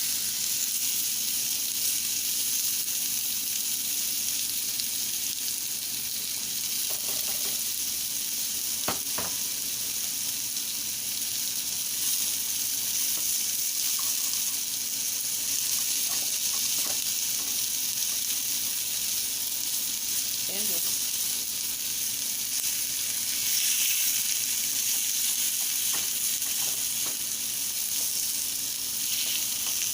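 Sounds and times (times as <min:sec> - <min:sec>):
chicken sizzling: 0:00.0 - 0:29.9.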